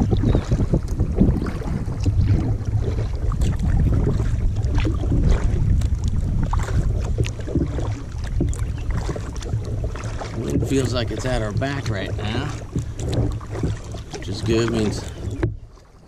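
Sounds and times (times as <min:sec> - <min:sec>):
paddle splashing in water: 0:00.0 - 0:16.0
wind rumble on microphone: 0:00.0 - 0:16.0.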